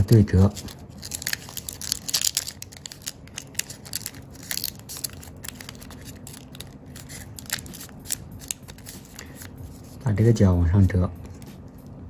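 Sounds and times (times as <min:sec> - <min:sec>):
paper crinkling as it is folded: 0:00.4 - 0:10.1.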